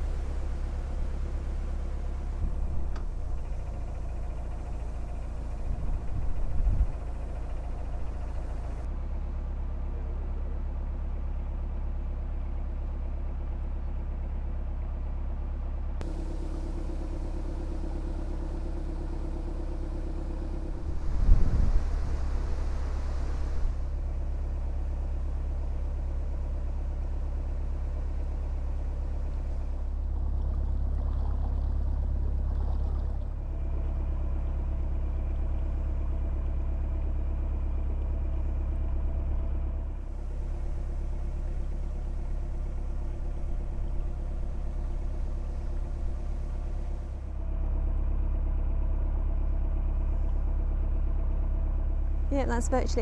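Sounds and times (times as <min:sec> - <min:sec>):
boat diesel engine droning: 0:00.0 - 0:53.0.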